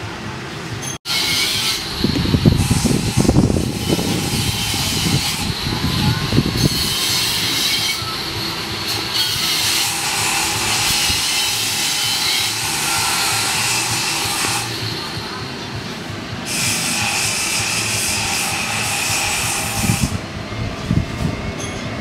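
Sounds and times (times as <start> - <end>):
train wheels rumbling on track: 0.0 - 22.0
faint high-pitched squealing: 0.8 - 20.2.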